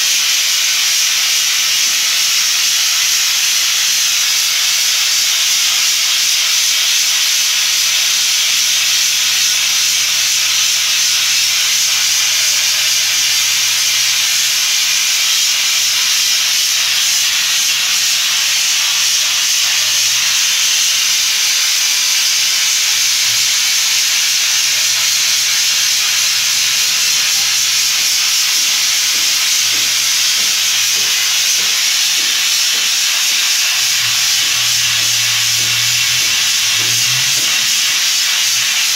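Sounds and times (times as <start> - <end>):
spray gun hissing: 1.6 - 38.9.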